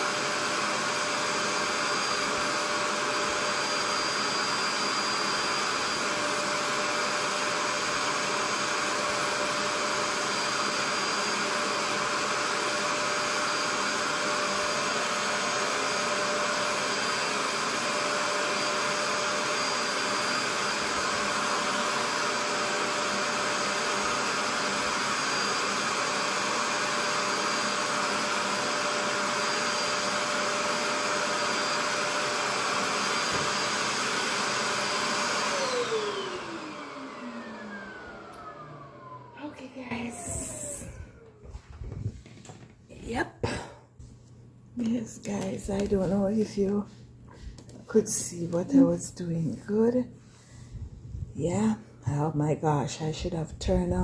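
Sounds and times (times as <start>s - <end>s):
carpet cleaner motor humming: 0.0s - 43.7s, 44.8s - 50.8s.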